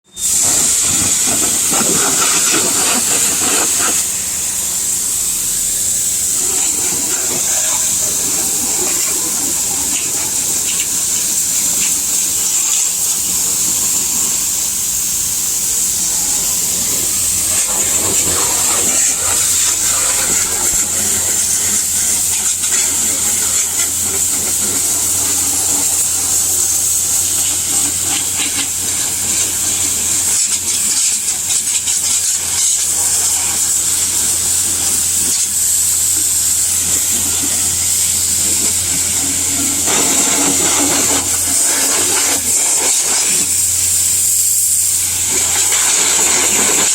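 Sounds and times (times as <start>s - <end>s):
pressure washer spraying water: 0.0s - 46.9s.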